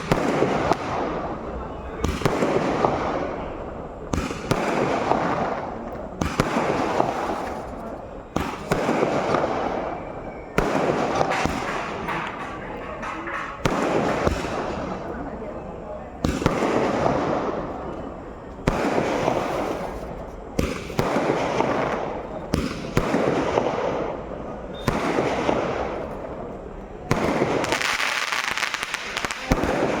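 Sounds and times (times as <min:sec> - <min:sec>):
fireworks bangs: 0:00.0 - 0:30.0
fireworks crackling: 0:00.0 - 0:30.0
fireworks rushing: 0:00.0 - 0:30.0.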